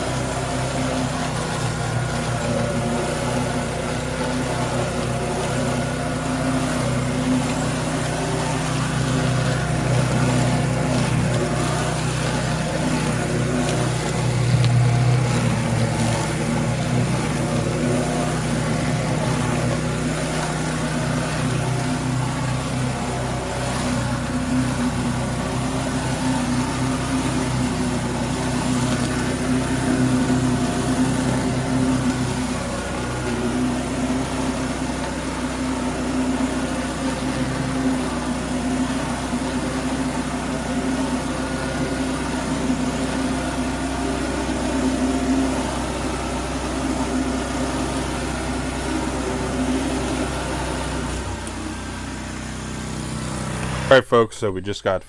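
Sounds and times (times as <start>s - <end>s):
water spraying on concrete: 0.0s - 53.9s
pressure washer engine running: 0.0s - 54.3s.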